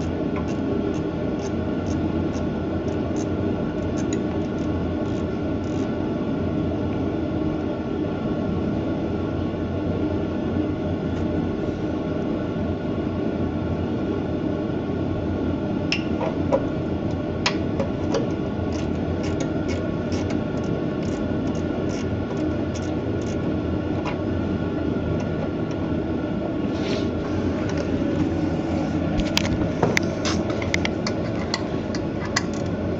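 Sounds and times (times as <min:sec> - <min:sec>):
mechanical drone: 0:00.0 - 0:32.9.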